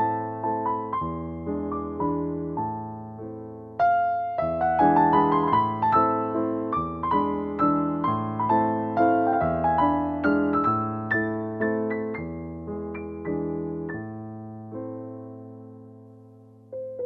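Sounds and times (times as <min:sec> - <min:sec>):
soft keyboard melody: 0:00.0 - 0:17.0.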